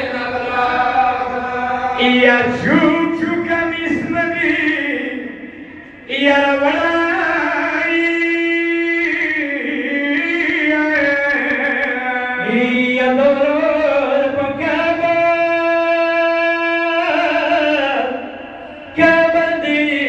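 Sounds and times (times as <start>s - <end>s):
person singing a mourning lament: 0.0s - 20.0s.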